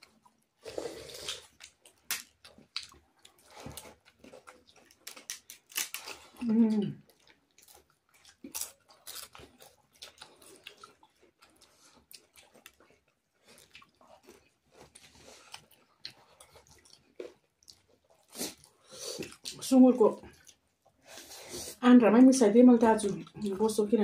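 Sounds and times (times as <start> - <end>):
people chewing food: 0.0 - 21.8.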